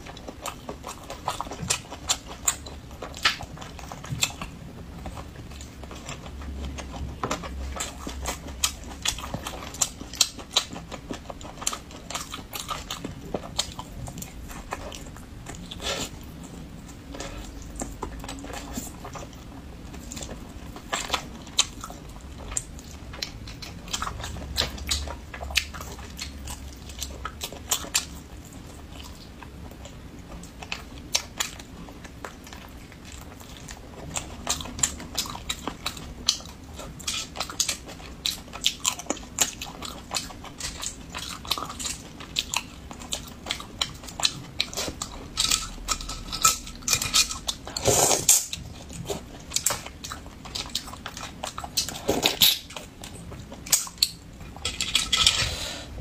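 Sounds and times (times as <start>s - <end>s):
person chewing meat: 0.0s - 56.0s.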